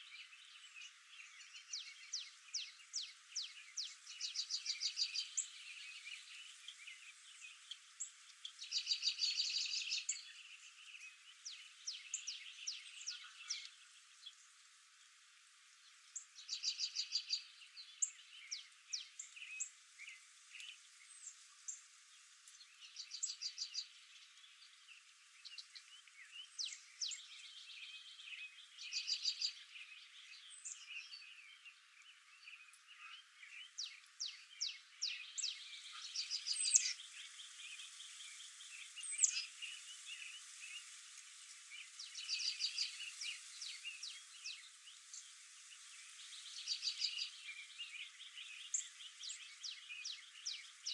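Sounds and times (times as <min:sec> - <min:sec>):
faint outdoor hiss: 0:00.0 - 0:50.9.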